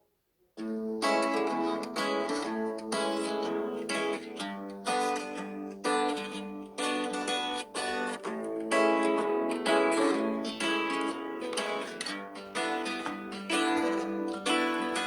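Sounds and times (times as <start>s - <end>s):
guitar ringtone tune: 0.6s - 15.0s.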